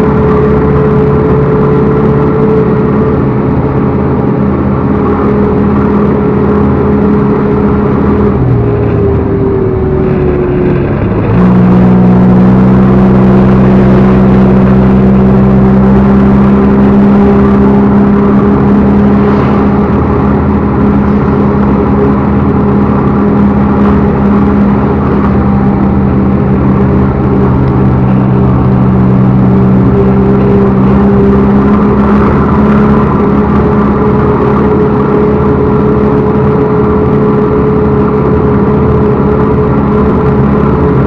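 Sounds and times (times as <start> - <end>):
diesel engine running and revving: 0.0 - 41.0.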